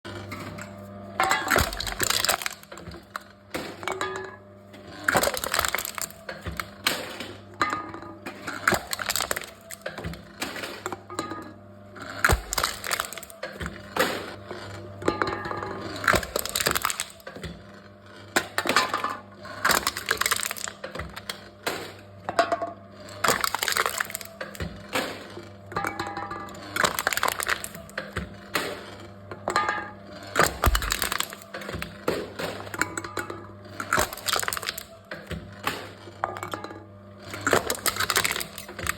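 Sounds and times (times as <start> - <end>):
machine crushing cans: 0.1 - 38.9.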